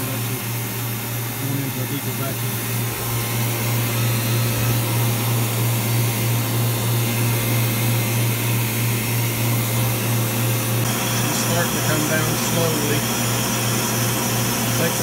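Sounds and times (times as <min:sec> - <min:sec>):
vacuum pump humming: 0:00.0 - 0:15.0.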